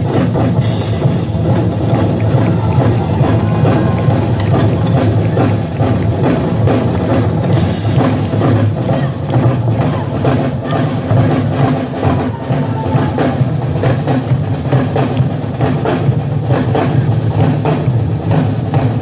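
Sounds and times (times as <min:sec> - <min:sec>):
live drumming and percussion: 0:00.0 - 0:19.0.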